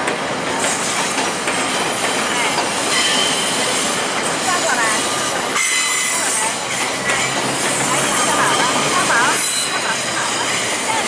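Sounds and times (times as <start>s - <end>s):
steel wheels on rail: 0.0s - 11.0s.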